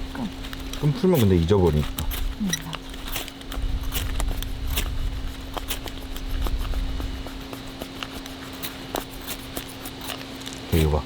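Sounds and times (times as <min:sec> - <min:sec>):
faint steady hum: 0:00.0 - 0:11.0
fire starter scrapes and clicks: 0:00.4 - 0:11.0.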